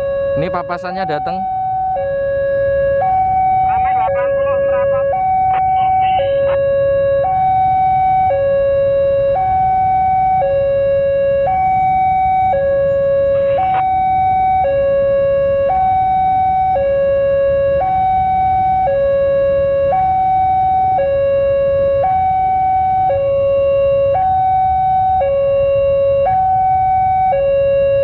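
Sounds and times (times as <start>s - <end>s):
level crossing two-tone alarm: 0.0s - 28.0s.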